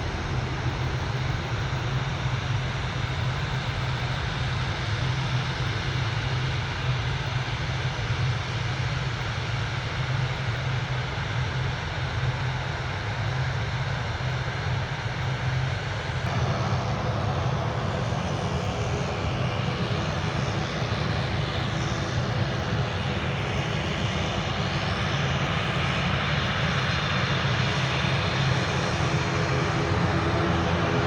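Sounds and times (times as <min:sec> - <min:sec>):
airliner engines running: 0:00.0 - 0:31.0.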